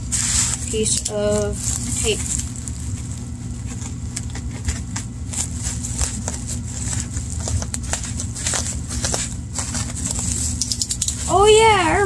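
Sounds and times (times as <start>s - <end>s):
bubble wrap crackling: 0.0s - 12.0s
low steady hum: 0.0s - 12.0s.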